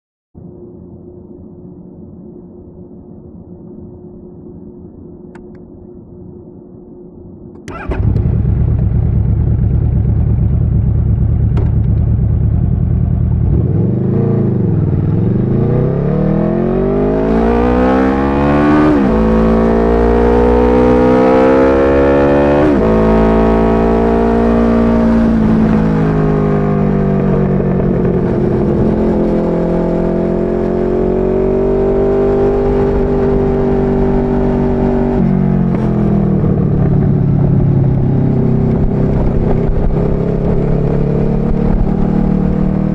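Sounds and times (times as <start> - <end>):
motorcycle engine accelerating: 7.6 - 42.9.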